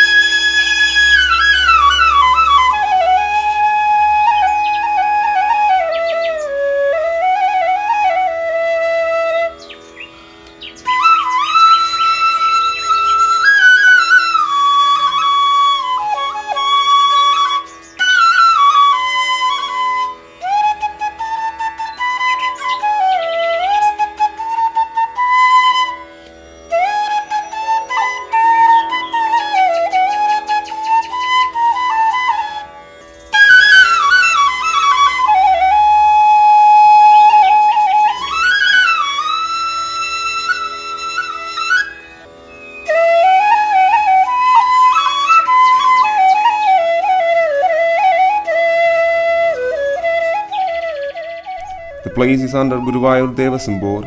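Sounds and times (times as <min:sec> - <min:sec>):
solo flute melody: 0:00.0 - 0:54.0.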